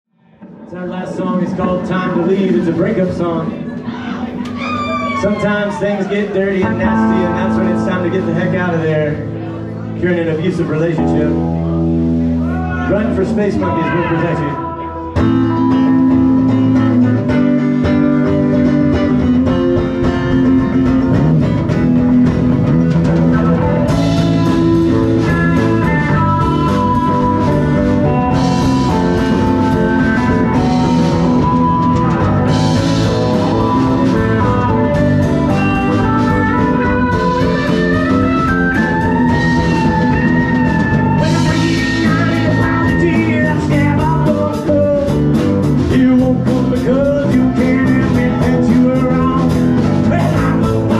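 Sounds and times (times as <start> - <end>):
electric guitar bending lead lines: 0.3 - 50.9
live blues rock band: 0.4 - 50.9.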